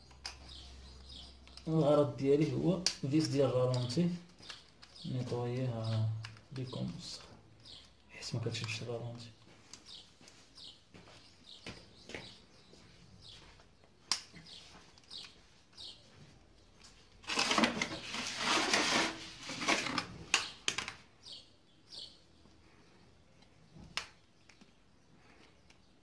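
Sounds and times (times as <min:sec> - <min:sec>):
small birds chirping: 0:00.0 - 0:18.4, 0:19.4 - 0:26.0.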